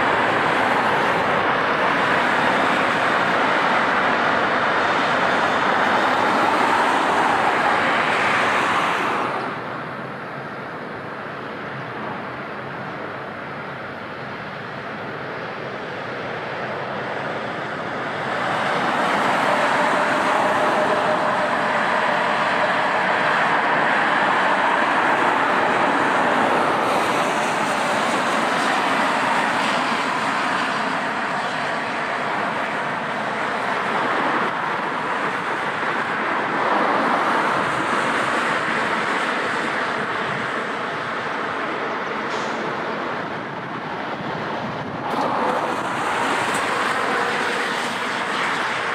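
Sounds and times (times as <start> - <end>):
jet airliner engines passing: 0.0 - 48.9.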